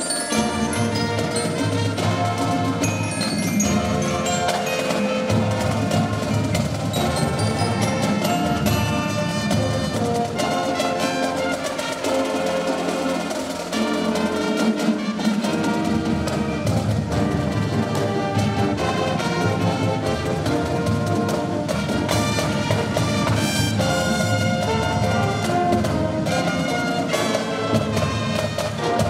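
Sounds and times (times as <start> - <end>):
brass ensemble: 0.0 - 29.0
marimbas and mallet percussion: 0.0 - 29.0.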